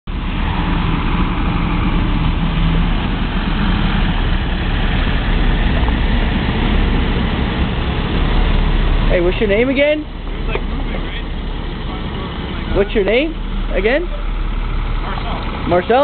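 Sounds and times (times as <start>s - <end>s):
military trucks driving past: 0.1s - 16.0s.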